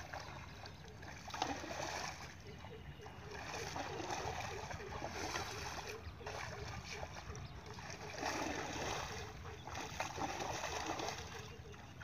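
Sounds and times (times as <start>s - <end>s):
water splashing and swishing: 0.0s - 12.0s.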